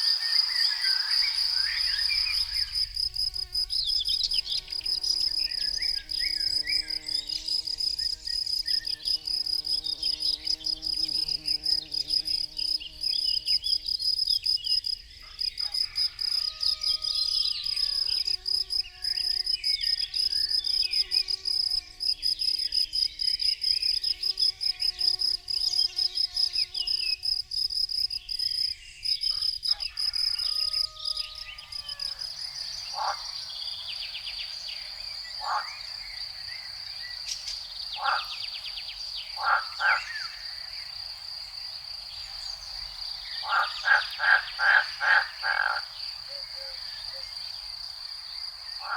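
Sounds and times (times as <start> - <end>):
flying insect buzzing: 0.0 - 15.0, 15.7 - 48.9
crickets chirping: 0.0 - 48.9.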